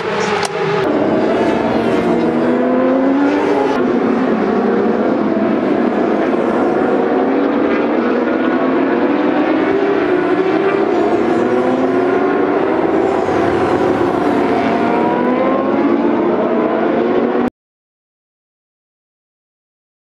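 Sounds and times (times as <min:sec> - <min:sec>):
racing motorcycle engines passing: 0:00.0 - 0:17.5.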